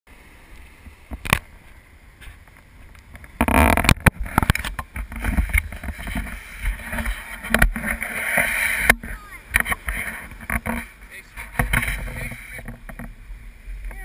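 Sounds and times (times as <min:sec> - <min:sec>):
surf washing up shore: 0:00.1 - 0:14.0.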